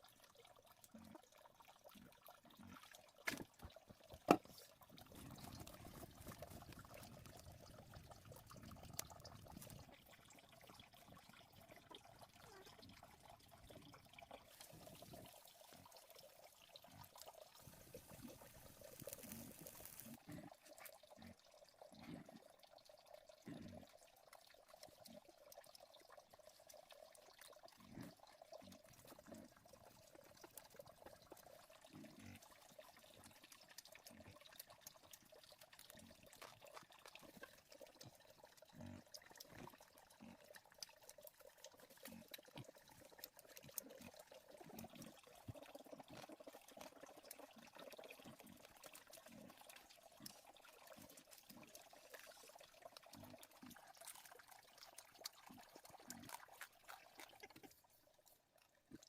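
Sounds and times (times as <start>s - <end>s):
faint trickling water: 0.0s - 59.0s.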